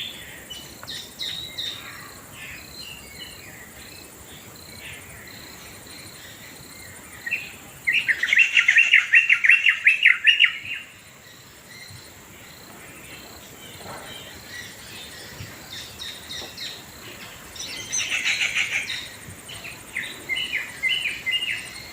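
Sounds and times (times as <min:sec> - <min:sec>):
birds calling repeated notes: 0:00.0 - 0:21.9
high insect trill: 0:00.0 - 0:21.9.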